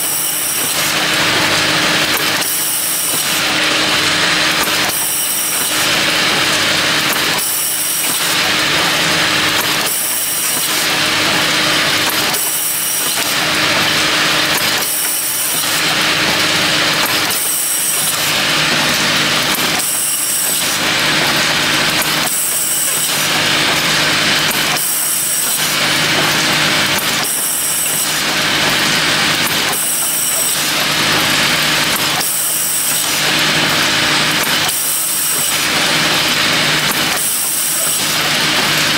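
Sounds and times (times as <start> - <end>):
bottle filling machine whirring: 0.0 - 38.9.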